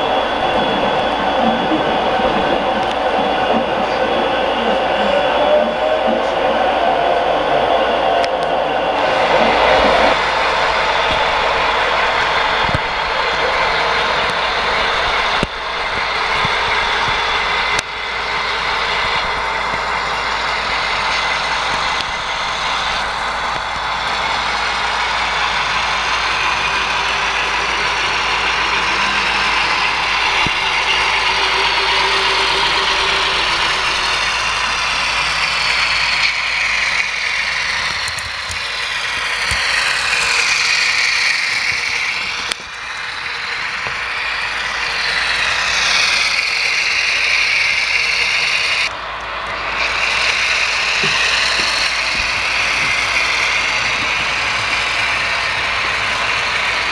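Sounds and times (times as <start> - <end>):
model train motor whirring: 9.0 - 56.9.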